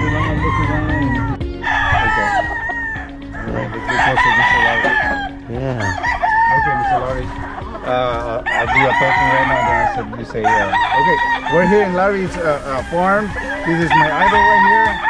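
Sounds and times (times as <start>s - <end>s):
chickens clucking: 0.0s - 15.0s
roosters crowing: 0.0s - 15.0s.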